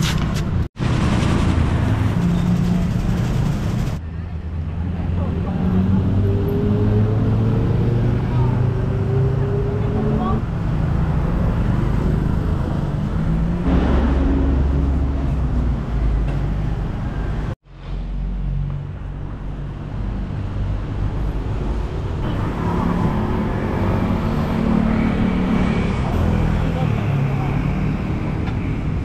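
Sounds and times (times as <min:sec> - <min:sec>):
traffic engines rumbling: 0:00.0 - 0:29.0.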